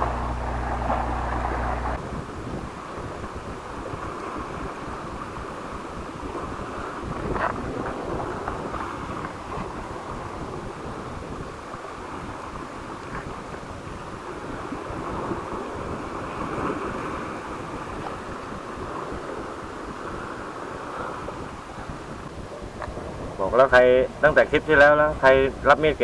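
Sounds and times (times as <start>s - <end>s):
sea waves washing: 0.0s - 26.0s
wind buffeting microphone: 0.0s - 26.0s.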